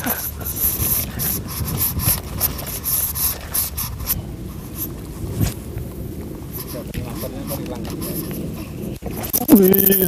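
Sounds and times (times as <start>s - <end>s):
low rumble: 0.0s - 9.9s
clothing rubbing on microphone: 0.0s - 10.0s.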